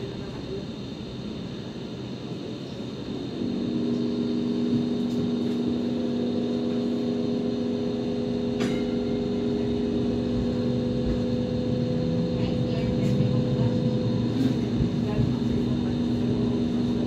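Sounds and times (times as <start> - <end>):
train wheel and rail rumble: 0.0 - 17.0
traction motor hum: 2.7 - 17.0.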